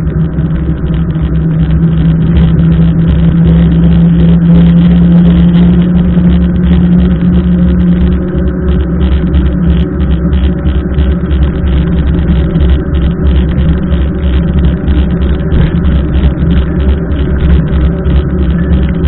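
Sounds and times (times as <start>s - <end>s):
steady low hum: 0.0s - 19.0s
wind rumble: 0.0s - 19.0s.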